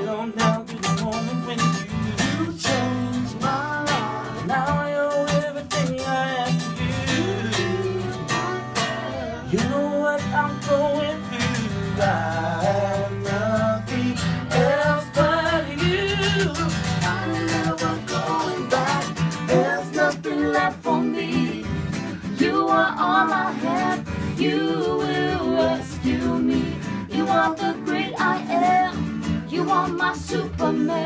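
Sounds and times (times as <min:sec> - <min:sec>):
acoustic guitar strumming: 0:00.0 - 0:31.0
person singing: 0:00.0 - 0:31.0.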